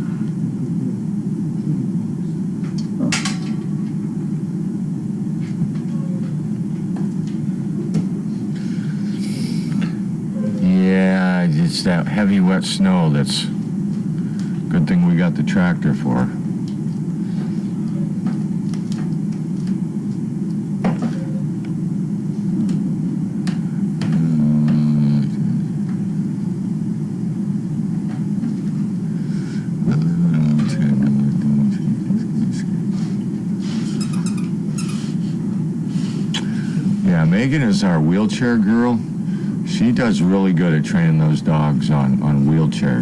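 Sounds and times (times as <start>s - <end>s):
low pitched hum: 0.0s - 43.0s
steady low rumble: 0.0s - 43.0s.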